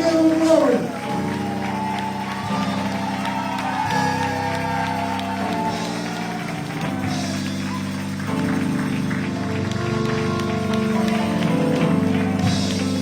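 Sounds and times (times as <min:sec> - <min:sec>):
church music sustained chords: 0:00.0 - 0:13.0.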